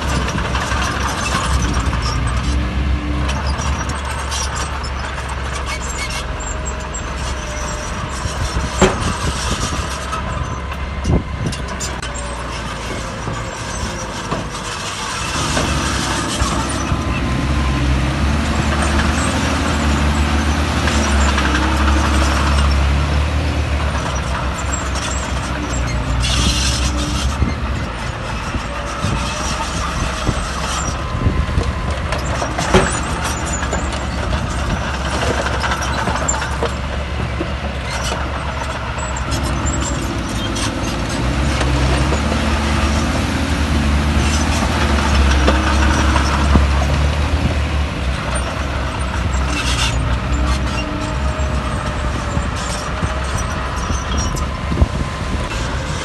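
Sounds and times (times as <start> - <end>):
heavy diesel machinery engine: 0.0 - 56.0
metal clanking and rattling: 3.2 - 17.3, 18.3 - 43.1, 44.1 - 56.0.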